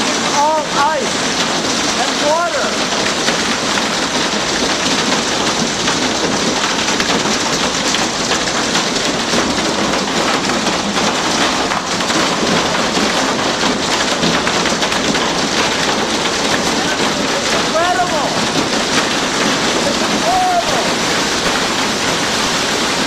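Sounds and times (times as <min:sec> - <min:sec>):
hail and rain on glass: 0:00.0 - 0:23.0.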